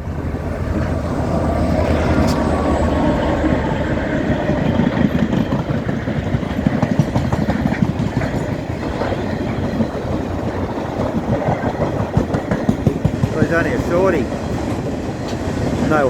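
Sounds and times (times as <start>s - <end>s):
train wheels clattering over rail joints: 0.0s - 16.0s.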